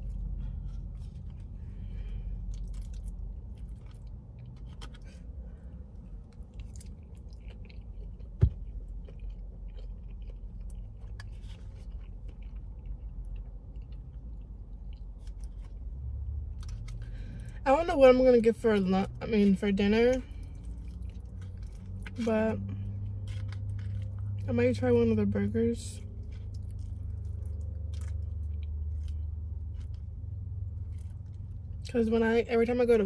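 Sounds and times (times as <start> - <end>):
person chewing food: 0.0 - 17.5, 20.3 - 24.5, 26.1 - 31.9
low rumble inside car: 0.0 - 33.0.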